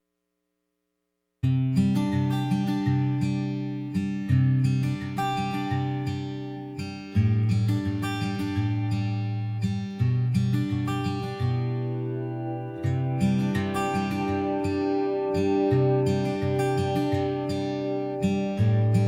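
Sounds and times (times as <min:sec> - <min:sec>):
acoustic guitar music: 0:01.4 - 0:19.0.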